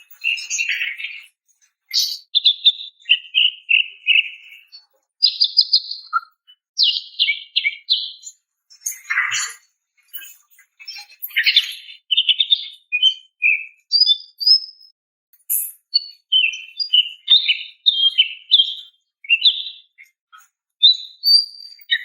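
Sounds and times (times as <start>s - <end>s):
bird chirping and whistling: 0.0s - 1.2s, 1.9s - 14.9s, 15.5s - 20.0s, 20.8s - 22.0s.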